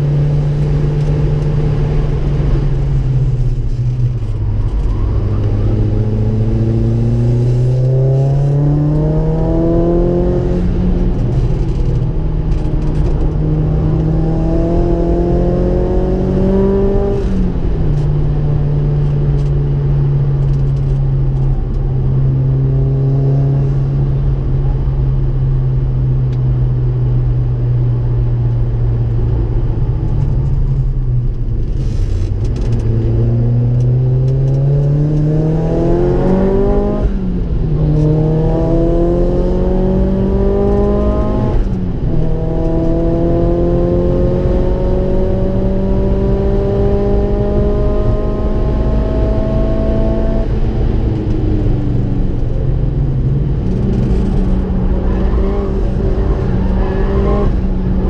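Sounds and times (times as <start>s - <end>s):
car engine revving in cabin: 0.0s - 58.0s.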